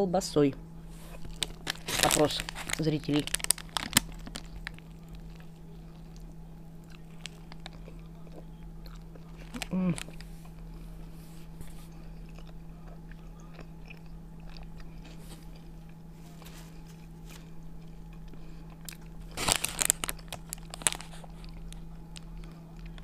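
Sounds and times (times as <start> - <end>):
close-up chewing: 0.9 - 23.0.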